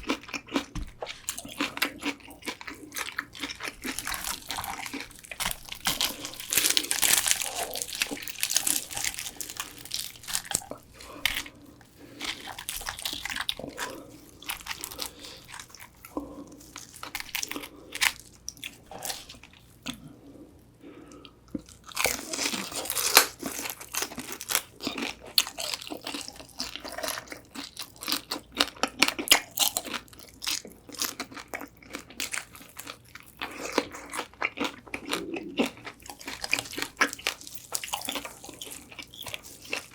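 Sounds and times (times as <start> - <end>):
crunching fried chicken: 0.0 - 20.0, 21.5 - 39.9.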